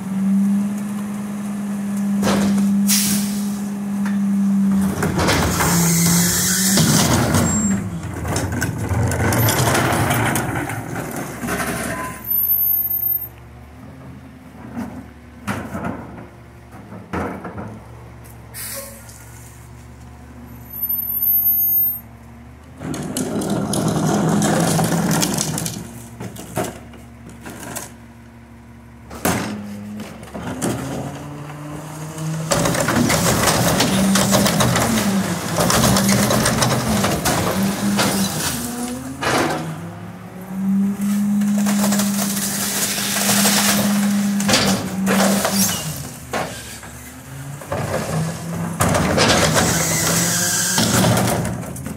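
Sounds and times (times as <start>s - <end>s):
trash carts knocking and clanking: 2.0s - 3.3s, 4.0s - 18.5s, 22.7s - 51.9s.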